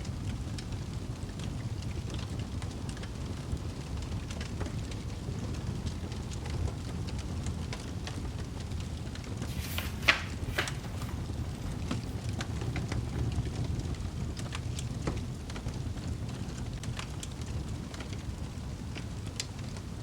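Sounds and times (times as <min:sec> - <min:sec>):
fire low rumble: 0:00.0 - 0:20.0
fire crackling and popping: 0:00.1 - 0:20.0.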